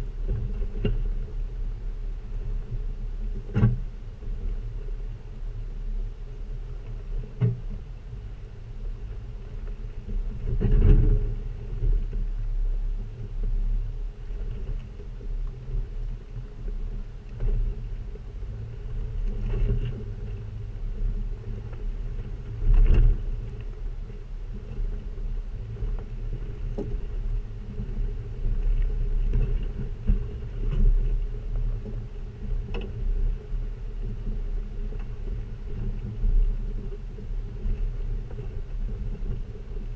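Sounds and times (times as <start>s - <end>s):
vehicle driving low rumble: 0.0s - 39.9s.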